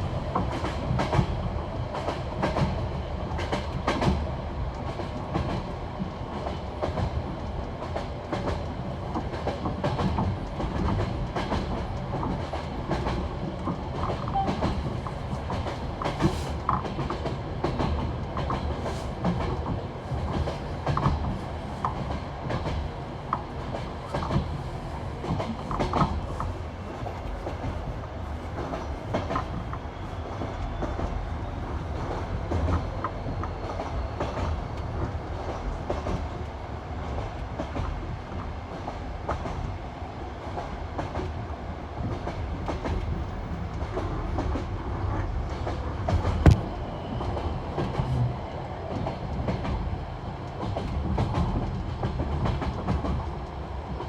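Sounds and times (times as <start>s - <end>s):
train rolling rumble: 0.0s - 54.0s
train wheels clickety-clack: 0.0s - 54.0s.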